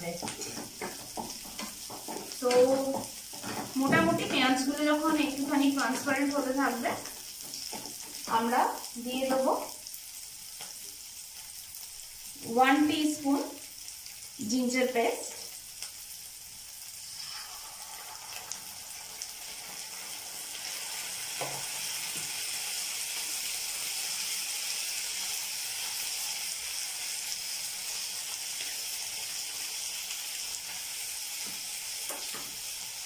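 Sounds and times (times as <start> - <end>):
onion sizzling in hot oil: 0.0 - 33.0.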